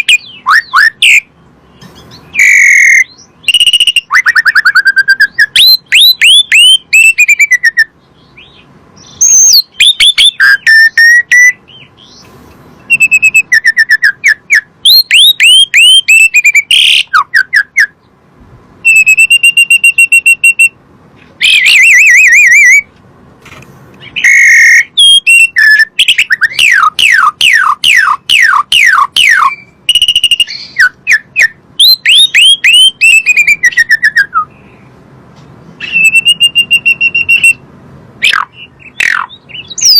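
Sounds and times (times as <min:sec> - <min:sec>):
starling singing whistled notes: 0:00.0 - 0:18.1, 0:18.8 - 0:20.8, 0:21.4 - 0:22.9, 0:24.0 - 0:34.8, 0:35.8 - 0:37.6, 0:38.2 - 0:39.9.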